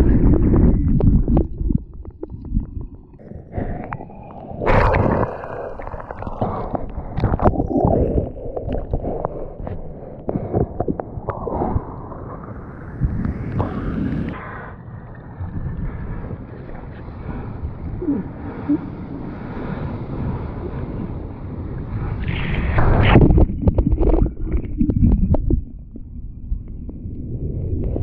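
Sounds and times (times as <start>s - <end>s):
deep rumble: 0.0s - 28.0s
muffled surf churning and splashing: 0.0s - 28.0s.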